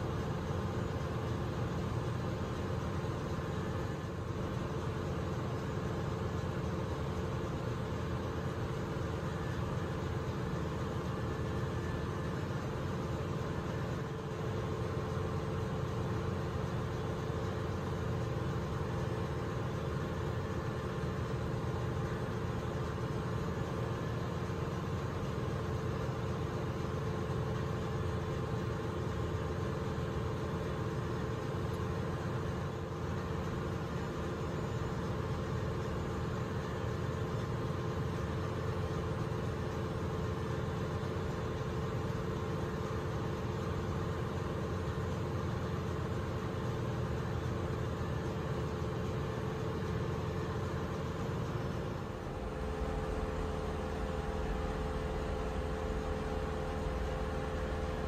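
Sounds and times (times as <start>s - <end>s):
engine room machinery drone: 0.0s - 58.0s.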